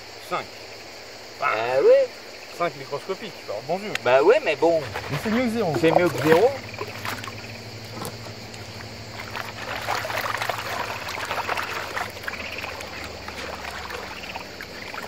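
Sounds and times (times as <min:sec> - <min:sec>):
water splashing and sloshing: 0:02.2 - 0:15.0.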